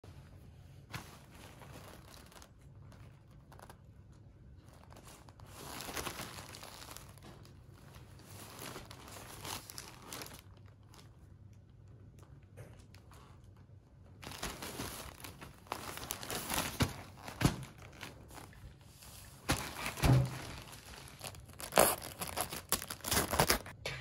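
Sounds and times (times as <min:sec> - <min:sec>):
plastic wrapping crinkling: 0:00.8 - 0:12.3, 0:14.1 - 0:23.8.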